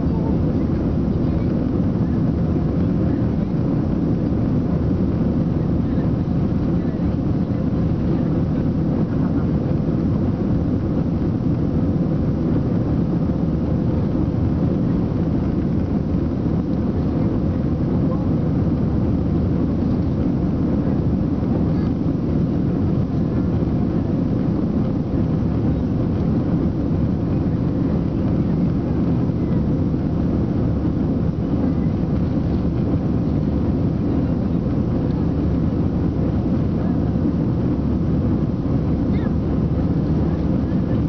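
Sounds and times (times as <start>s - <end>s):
faint steady hum: 0.0s - 41.0s
jet engines and rushing air: 0.0s - 41.0s.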